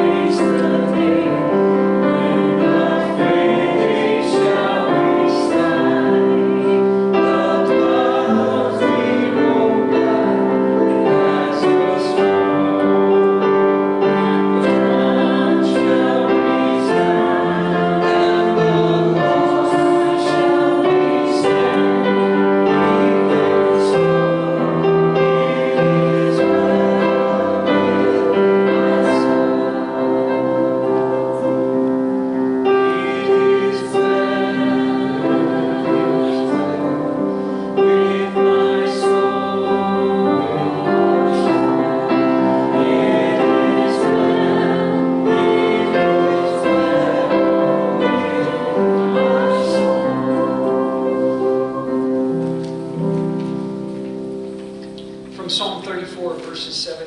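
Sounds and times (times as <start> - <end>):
choir singing held notes: 0.0 - 57.0
piano accompaniment: 0.0 - 57.0.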